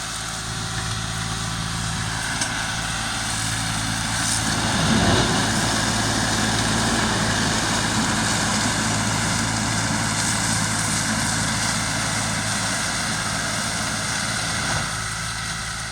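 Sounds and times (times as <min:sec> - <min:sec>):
machine engine running under load: 0:00.0 - 0:15.9.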